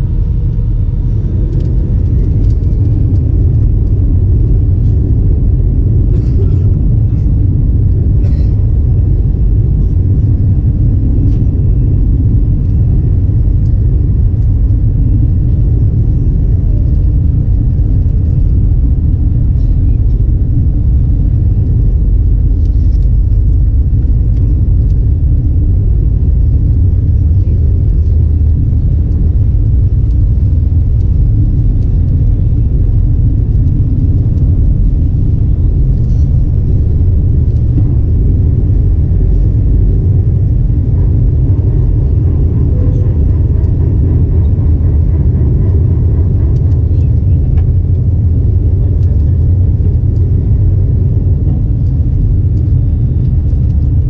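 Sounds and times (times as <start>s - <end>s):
jet engines and airflow rumble: 0.0s - 54.0s.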